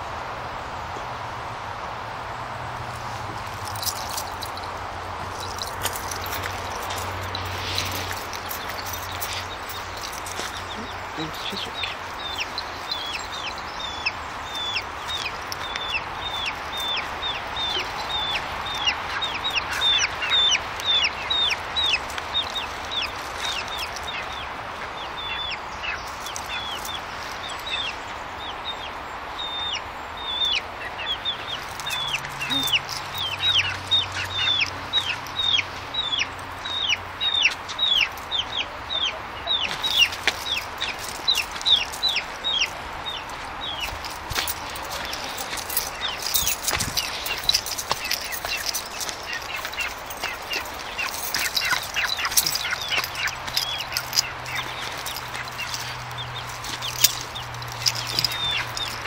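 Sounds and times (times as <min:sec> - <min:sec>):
baby chicks peeping: 0:05.3 - 0:59.0.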